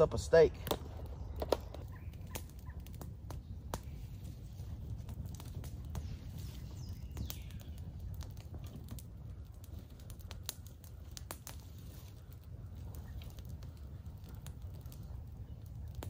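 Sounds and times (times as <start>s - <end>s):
campfire crackling: 0.0s - 16.0s
sharp pops and snaps: 0.6s - 4.3s, 4.9s - 16.0s.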